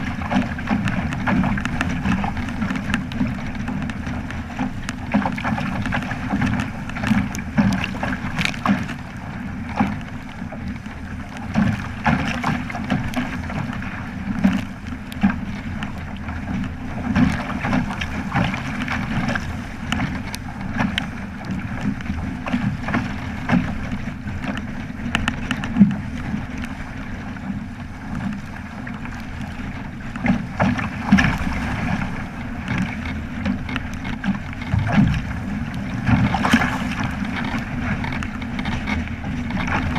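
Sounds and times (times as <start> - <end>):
water splashing against boat hull: 0.0 - 39.9.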